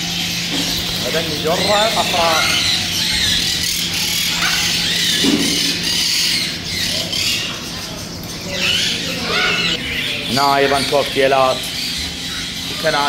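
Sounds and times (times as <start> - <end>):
parrots chattering and squawking: 0.0 - 13.0.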